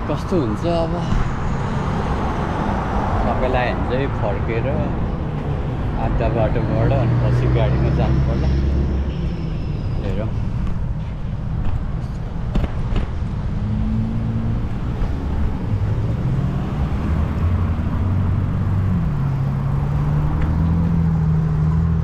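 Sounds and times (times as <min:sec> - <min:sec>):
low road rumble: 0:00.0 - 0:22.0.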